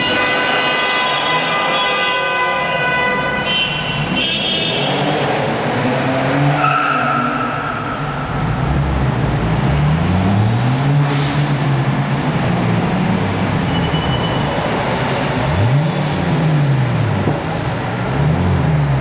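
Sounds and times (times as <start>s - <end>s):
car engines revving in tunnel: 2.8s - 19.0s.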